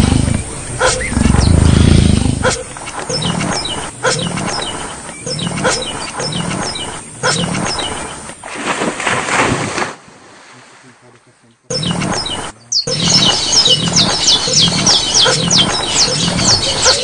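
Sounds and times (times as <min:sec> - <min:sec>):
caged birds chirping: 0:00.0 - 0:08.4, 0:11.7 - 0:17.0.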